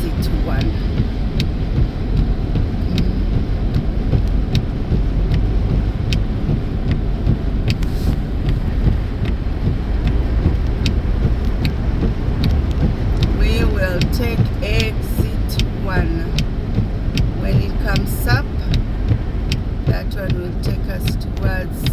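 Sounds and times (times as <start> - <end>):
car cabin road noise: 0.0 - 21.9
sharp ticks: 0.0 - 21.9.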